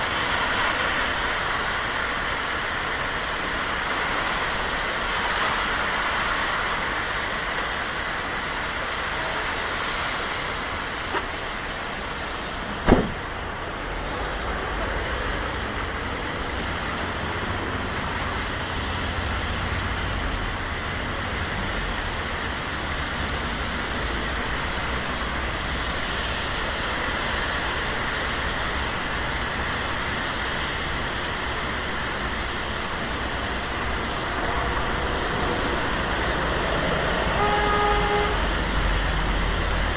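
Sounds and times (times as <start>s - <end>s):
cars hissing on wet street: 0.0s - 39.9s
steady rain: 0.0s - 39.9s.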